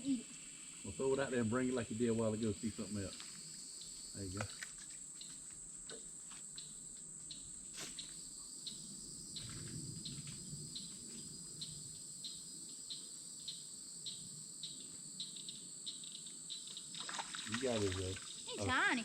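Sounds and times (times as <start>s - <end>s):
high-pitched insect chorus: 0.0s - 19.0s
short insect chirps: 0.0s - 19.0s.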